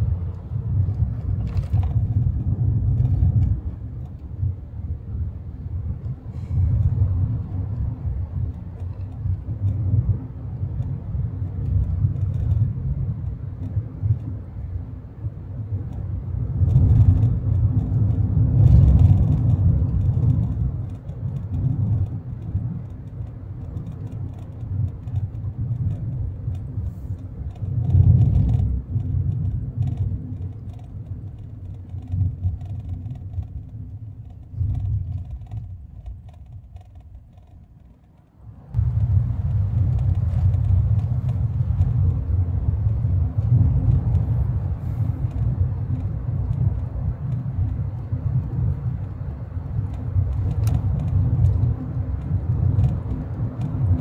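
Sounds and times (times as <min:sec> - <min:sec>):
road and engine rumble: 0:00.0 - 0:54.0.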